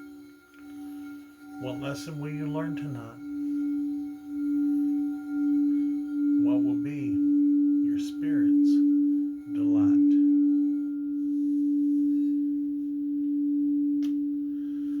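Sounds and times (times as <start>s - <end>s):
singing bowl low tone: 0.0s - 15.0s.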